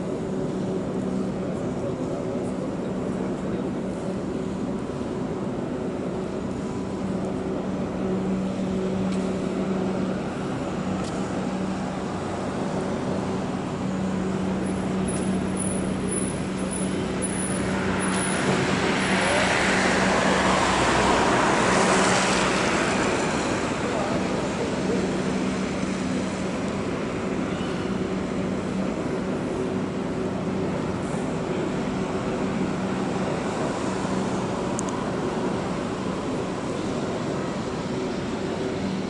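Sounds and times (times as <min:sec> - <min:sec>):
broad rushing noise: 0:00.0 - 0:39.0.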